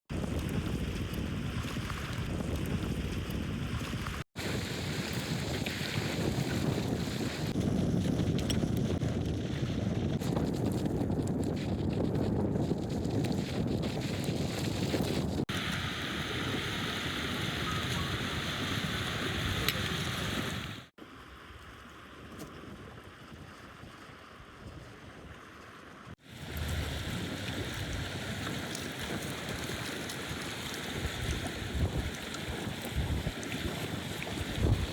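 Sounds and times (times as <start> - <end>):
wind blowing across microphone: 0.1 - 20.9, 22.1 - 34.9.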